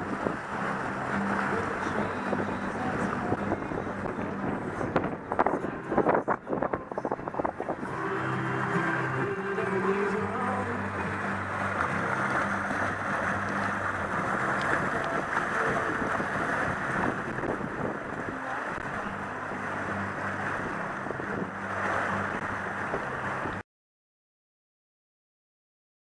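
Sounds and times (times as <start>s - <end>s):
water rushing along hull: 0.0s - 23.6s
wind buffeting microphone: 0.0s - 23.6s.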